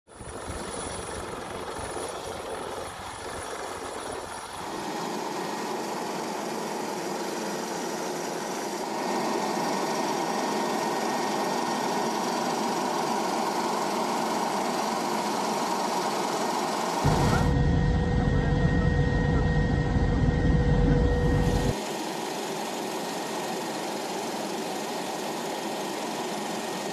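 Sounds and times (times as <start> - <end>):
helicopter rotor and turbine drone: 0.1 - 26.9.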